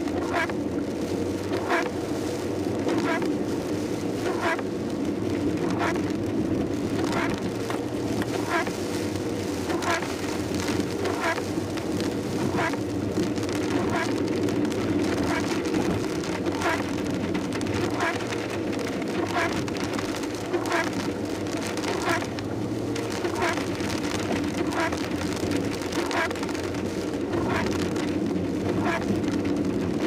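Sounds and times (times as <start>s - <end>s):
car engine and tyre noise: 0.0s - 30.0s
rain hissing on car: 0.0s - 30.0s
windscreen wipers swishing: 0.0s - 30.0s.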